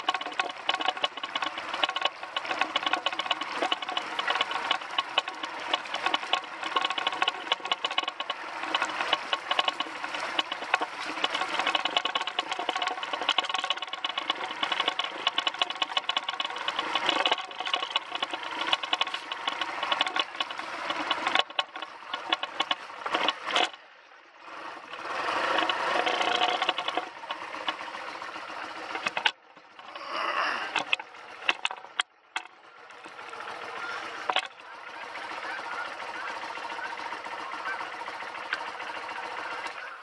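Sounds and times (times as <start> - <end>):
sharp clicks: 0.0 - 23.8, 25.4 - 33.2, 33.8 - 34.6
motorcycle engine running: 0.0 - 40.0
motorcycle rattling: 0.0 - 40.0.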